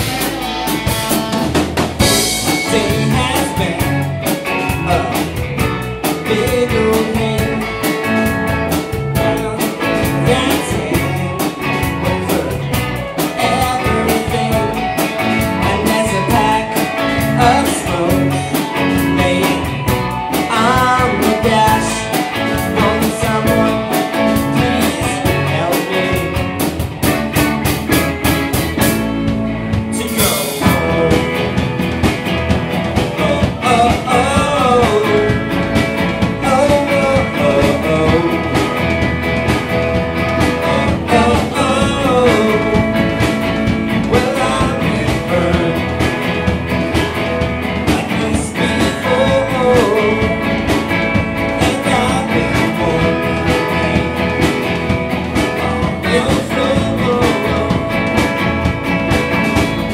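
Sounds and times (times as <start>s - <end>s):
live rock band with singing: 0.0s - 59.9s.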